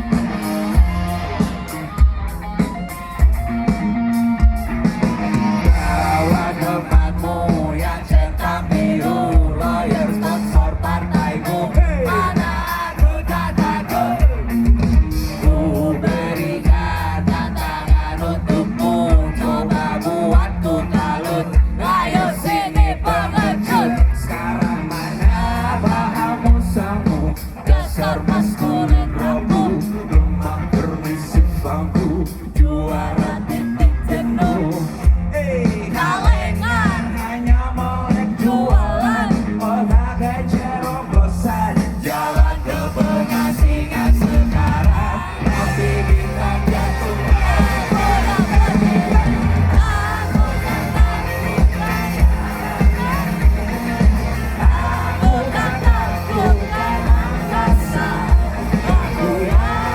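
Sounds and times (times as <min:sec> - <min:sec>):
rock song with vocal: 0:00.0 - 0:59.9
steady drum beat: 0:00.0 - 0:59.9.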